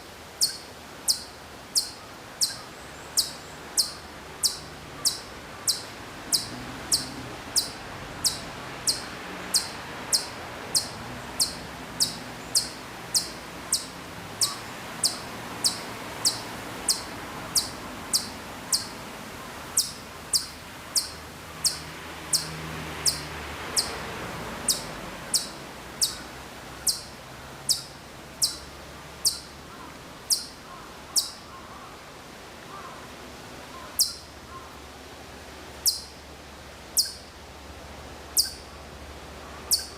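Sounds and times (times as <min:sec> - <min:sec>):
chipmunk chip calls: 0:00.4 - 0:24.0, 0:24.6 - 0:27.1, 0:27.7 - 0:31.9, 0:33.7 - 0:34.7, 0:35.8 - 0:36.2, 0:36.9 - 0:37.3, 0:38.3 - 0:38.8, 0:39.6 - 0:39.9.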